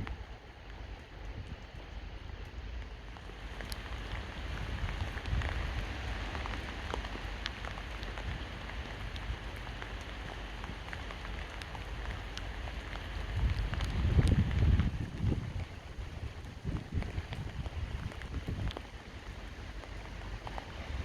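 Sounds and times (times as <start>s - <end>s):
sharp drip ticks: 0.0s - 20.9s
low wind rumble: 0.0s - 21.0s
steady rain falling: 0.0s - 21.0s.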